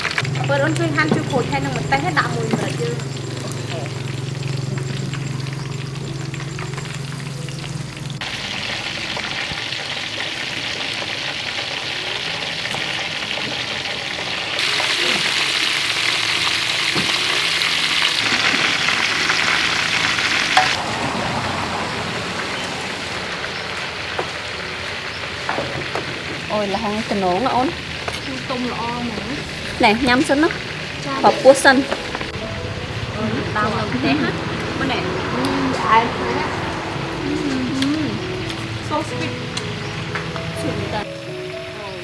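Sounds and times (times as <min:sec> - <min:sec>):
crab deep-frying in oil: 0:00.0 - 0:40.2, 0:41.0 - 0:42.0.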